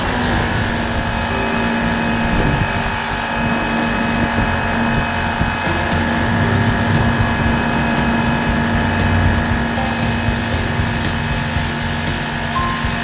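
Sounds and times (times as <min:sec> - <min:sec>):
pressure washer motor humming: 0:00.0 - 0:13.0
water jet spraying concrete: 0:00.0 - 0:13.0.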